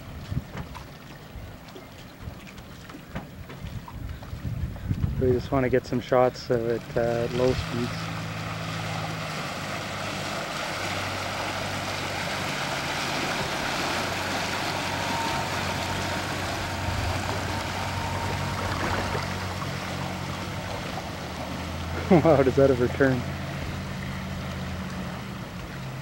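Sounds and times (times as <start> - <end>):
outboard motor humming: 0.0 - 26.0
water wash from wake: 0.0 - 26.0.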